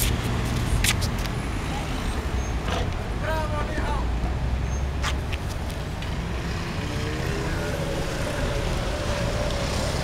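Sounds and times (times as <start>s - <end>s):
rumble of passing vehicles: 0.0s - 10.0s.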